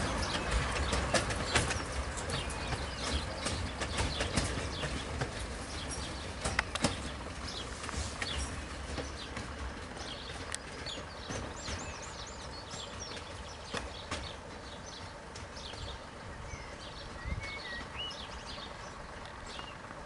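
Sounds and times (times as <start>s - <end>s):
bird chirping: 0.0s - 20.0s
train rumbling: 0.0s - 20.0s
wheels clicking over rail joints: 0.0s - 20.0s.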